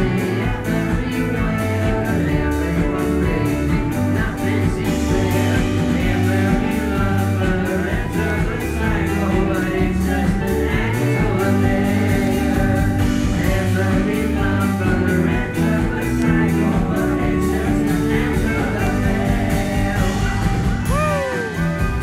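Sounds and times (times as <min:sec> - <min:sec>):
live rock band: 0:00.0 - 0:22.0
man singing: 0:00.0 - 0:22.0.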